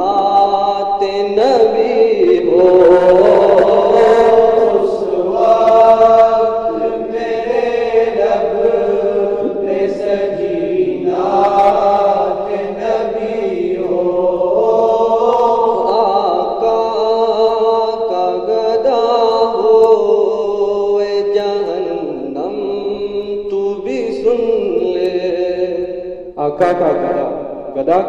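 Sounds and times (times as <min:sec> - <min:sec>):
group of voices singing: 0:00.0 - 0:26.0.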